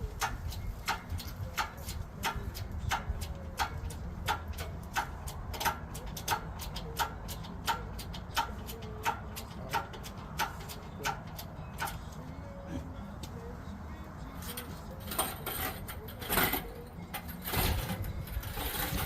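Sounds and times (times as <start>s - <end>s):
mechanical ticking: 0.0s - 12.2s, 14.4s - 19.0s.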